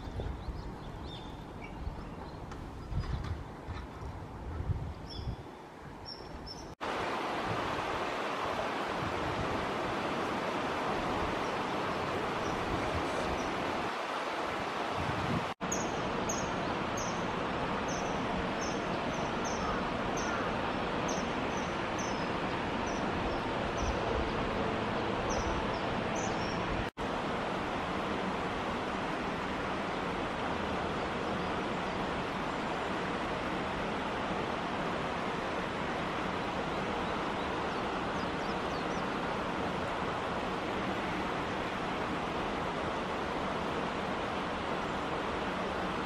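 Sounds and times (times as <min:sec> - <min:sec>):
stream water flowing: 0:05.5 - 0:46.0.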